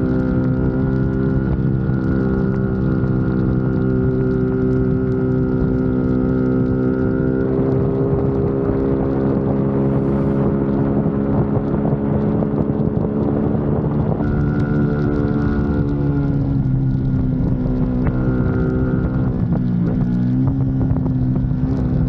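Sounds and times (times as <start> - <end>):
motorcycle engine running: 0.0 - 22.0
wind on microphone: 0.0 - 22.0.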